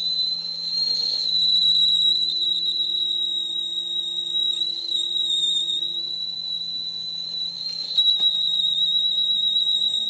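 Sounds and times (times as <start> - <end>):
lathe cutting tool whistle: 0.0 - 10.0.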